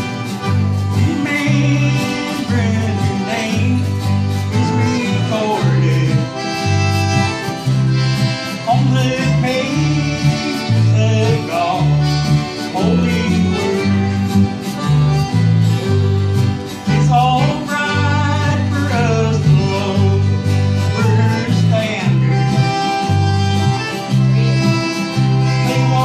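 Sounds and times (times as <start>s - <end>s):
accordion: 0.0s - 26.0s
bass line: 0.0s - 26.0s
sliding lead melody: 0.0s - 26.0s
strummed acoustic guitars: 0.0s - 26.0s.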